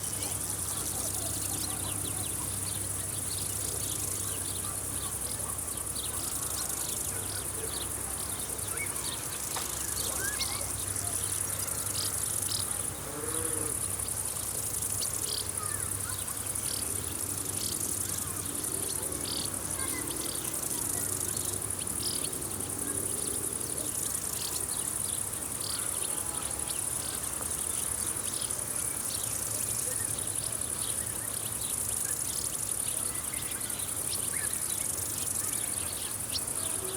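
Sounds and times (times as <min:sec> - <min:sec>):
insects chirring: 0:00.0 - 0:36.9.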